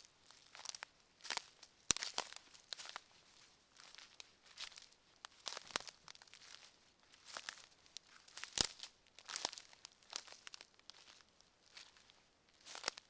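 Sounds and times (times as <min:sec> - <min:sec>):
footsteps crunching on forest floor: 0:00.0 - 0:13.0.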